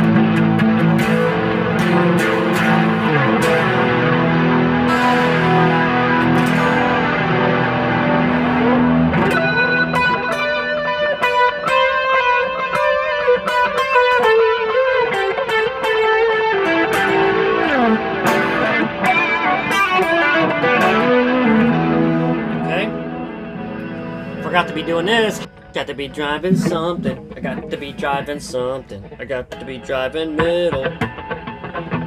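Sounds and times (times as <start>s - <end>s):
clean electric guitar: 0.0s - 32.0s.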